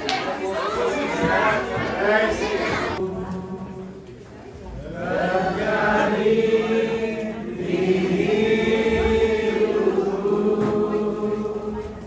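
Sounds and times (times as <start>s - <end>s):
voices singing together: 0.0s - 12.0s.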